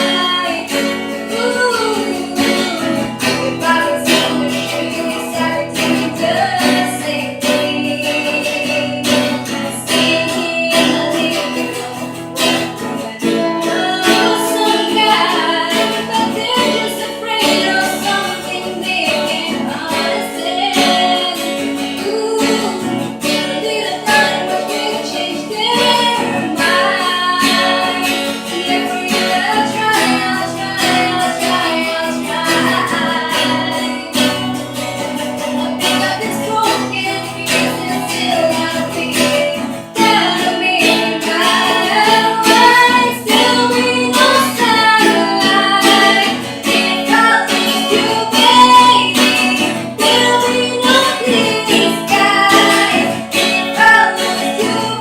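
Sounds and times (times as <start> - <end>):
acoustic guitar strumming: 0.0 - 55.0
woman singing: 0.0 - 55.0.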